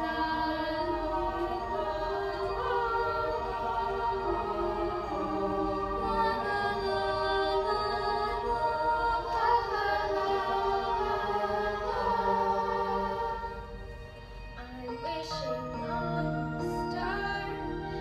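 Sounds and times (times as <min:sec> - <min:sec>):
slow choral music: 0:00.0 - 0:18.0.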